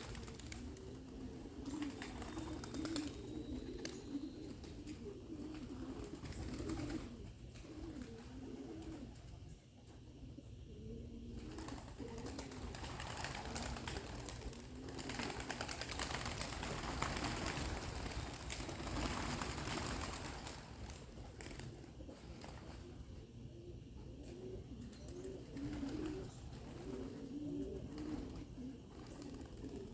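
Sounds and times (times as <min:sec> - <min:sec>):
pigeons cooing: 0:00.0 - 0:29.9.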